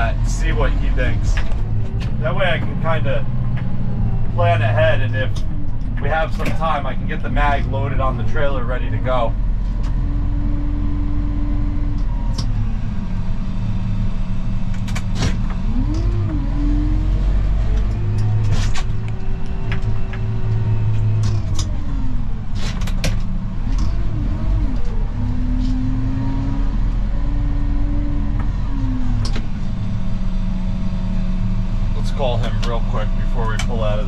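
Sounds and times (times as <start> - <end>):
snow plow engine running: 0.0 - 34.0.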